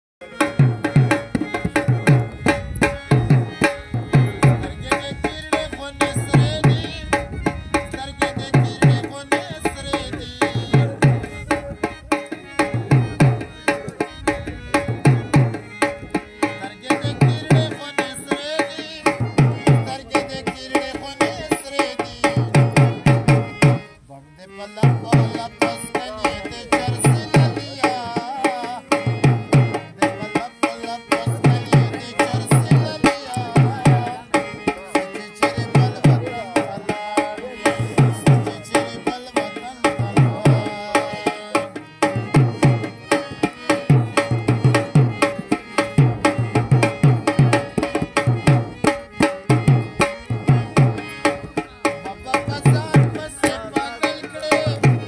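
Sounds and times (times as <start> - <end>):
barrel drum played by hand: 0.2 - 23.9, 24.7 - 55.0
harmonium notes: 0.2 - 55.0.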